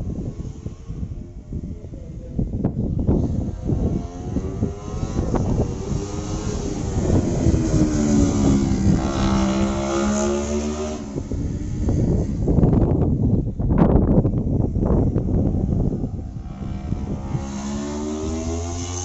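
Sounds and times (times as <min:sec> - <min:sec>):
racing motorcycle passing by: 0:00.0 - 0:19.0.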